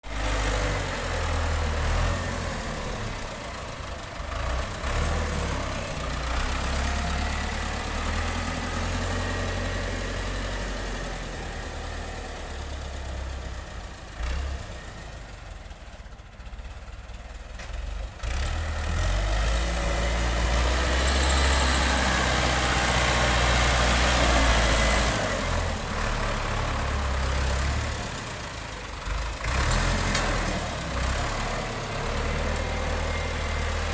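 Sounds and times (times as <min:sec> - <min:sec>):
tractor diesel engine rumbling: 0:00.0 - 0:33.9.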